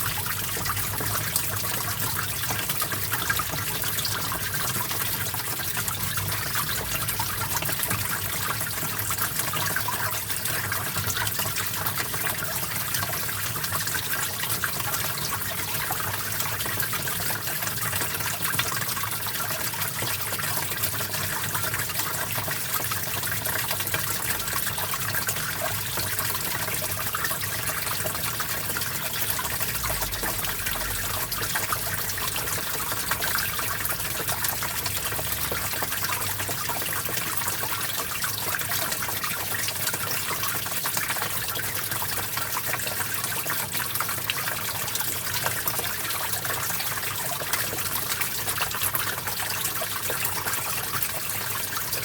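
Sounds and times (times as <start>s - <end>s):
stream water trickling: 0.0s - 52.0s.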